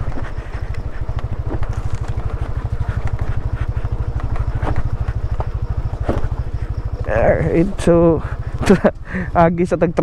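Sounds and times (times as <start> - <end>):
knocks on rough trail: 0.0 - 10.0
motorcycle engine running: 0.0 - 10.0.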